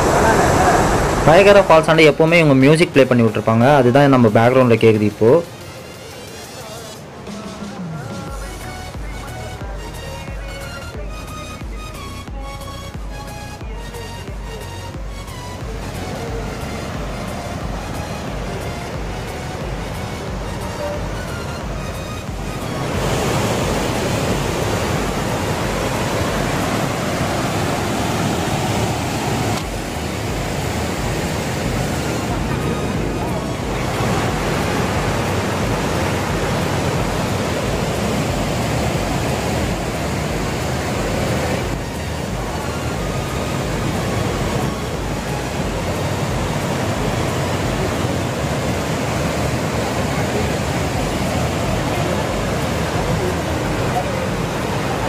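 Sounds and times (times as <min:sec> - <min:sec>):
water rushing over rocks: 0:00.0 - 0:55.0
music over loudspeakers: 0:01.2 - 0:55.0.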